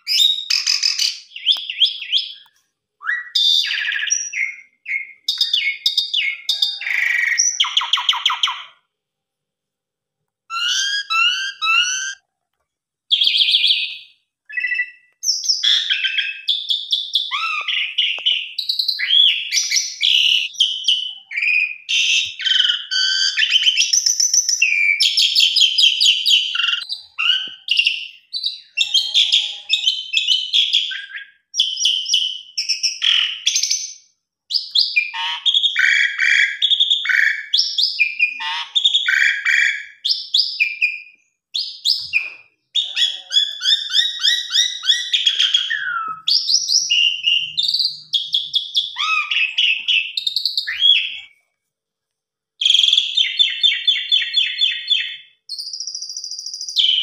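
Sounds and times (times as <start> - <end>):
starling singing: 0.0 - 8.8, 10.5 - 12.2, 13.1 - 51.3.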